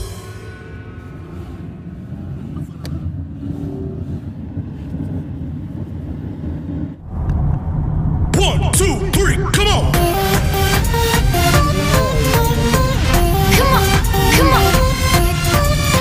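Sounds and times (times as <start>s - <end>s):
car cabin road rumble: 1.3s - 16.0s.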